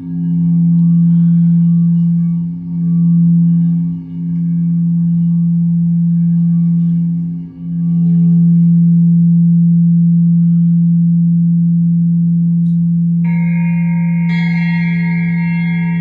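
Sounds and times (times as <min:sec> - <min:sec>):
low ringing tone: 0:00.0 - 0:16.0.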